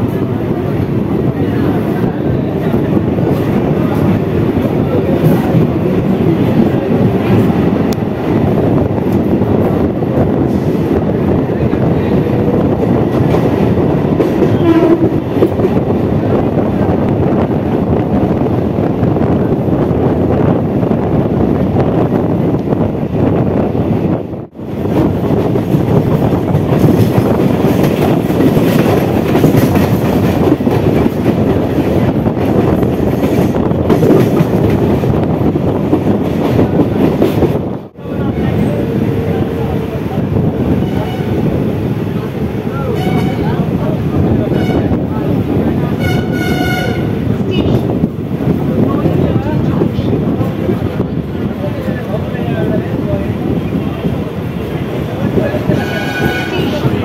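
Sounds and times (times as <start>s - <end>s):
rushing air: 0.0s - 57.0s
train wheels rumbling on rails: 0.0s - 57.0s.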